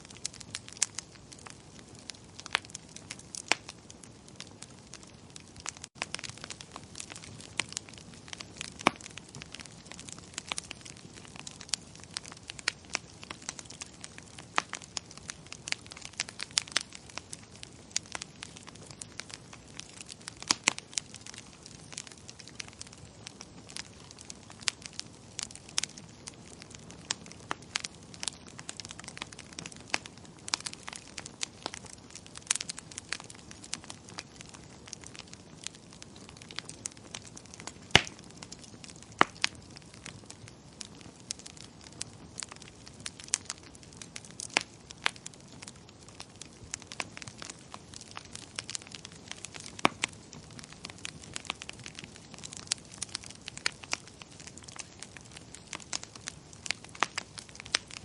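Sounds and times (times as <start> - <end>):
low hiss of burning: 0.0 - 58.0
wood fire crackling and popping: 0.0 - 58.0.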